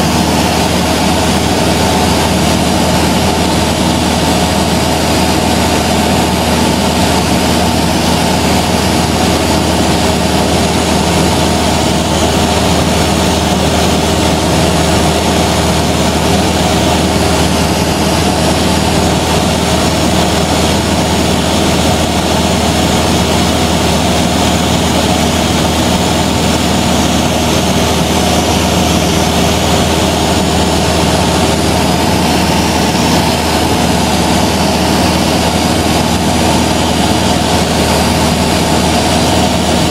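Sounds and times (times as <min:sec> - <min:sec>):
propeller plane engine droning: 0:00.0 - 0:39.9
wind and airframe noise: 0:00.0 - 0:39.9.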